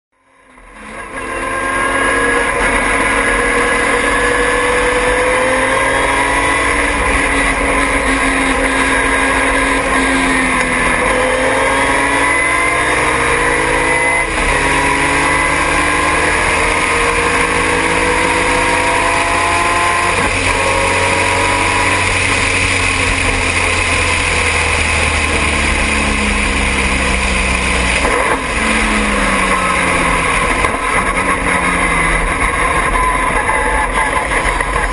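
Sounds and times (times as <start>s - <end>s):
racing car engine revving: 0.6s - 34.9s.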